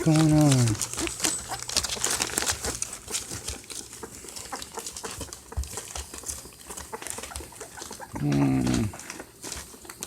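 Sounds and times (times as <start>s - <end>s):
puppies whimpering and squeaking: 0.0s - 10.0s
rustling and scratching clicks: 0.0s - 10.0s.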